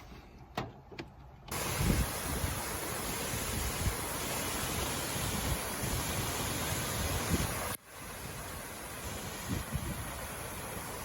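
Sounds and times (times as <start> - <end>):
waterfall rushing: 1.5 - 11.0
wind rumble on microphone: 1.5 - 11.0.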